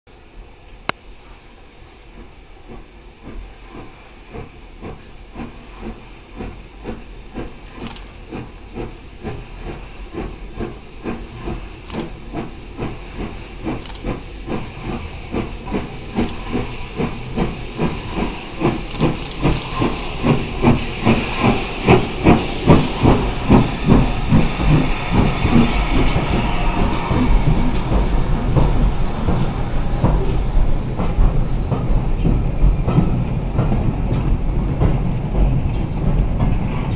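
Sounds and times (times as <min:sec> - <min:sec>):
steam hiss: 0:00.1 - 0:36.9
steam locomotive exhaust beats: 0:00.1 - 0:36.9.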